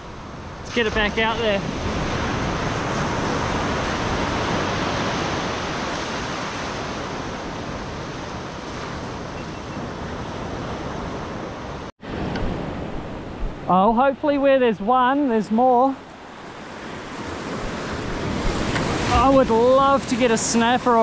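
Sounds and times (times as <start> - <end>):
surf washing up a sandy beach: 0.0 - 21.0.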